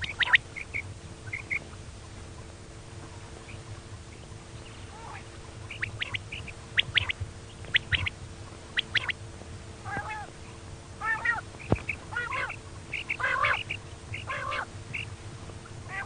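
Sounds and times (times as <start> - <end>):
quail calling: 0.0 - 9.2, 9.8 - 16.0
faint steady hum: 0.0 - 16.0.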